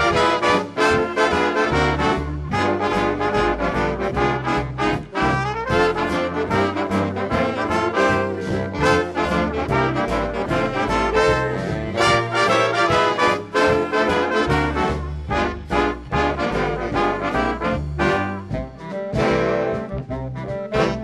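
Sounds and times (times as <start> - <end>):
big band swing music: 0.0 - 21.0.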